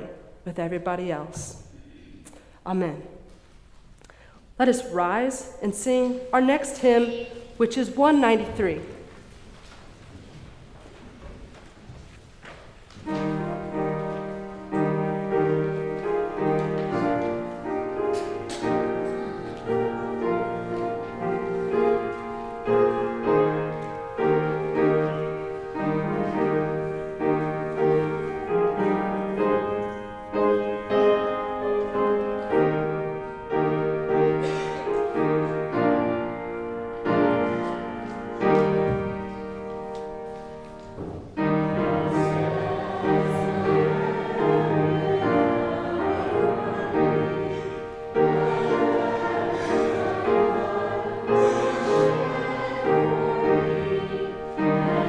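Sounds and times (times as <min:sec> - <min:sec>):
piano playing a hymn tune: 0:06.0 - 0:09.2, 0:12.8 - 0:55.0.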